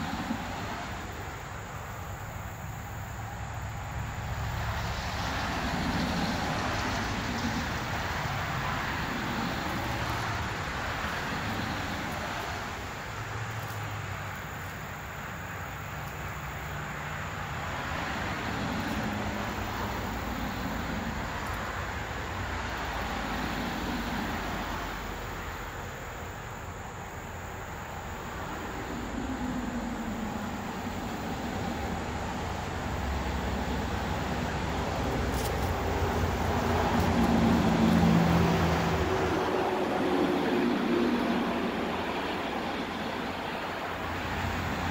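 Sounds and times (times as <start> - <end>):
outdoor background rush: 0.0 - 44.9.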